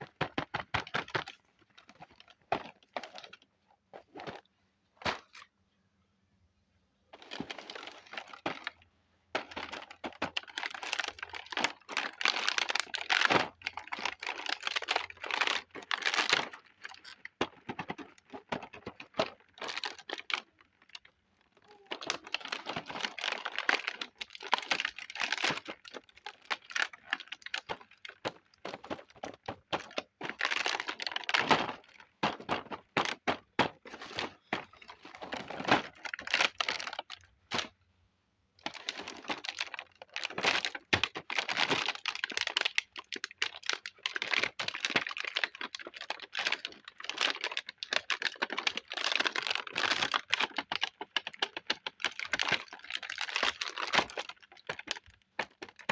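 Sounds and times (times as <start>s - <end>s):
plastic packaging crinkling: 7.2s - 8.8s, 9.4s - 37.8s, 38.6s - 55.9s.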